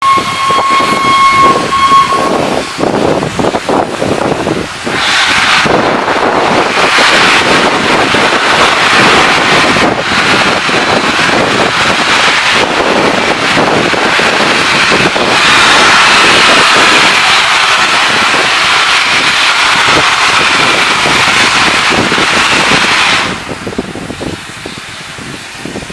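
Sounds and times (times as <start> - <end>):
steam locomotive exhaust rushing: 0.0 - 25.9.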